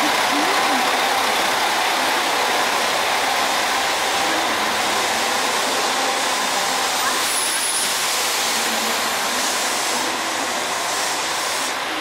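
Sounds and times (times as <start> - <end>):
diesel railcar engines running: 0.0 - 12.0.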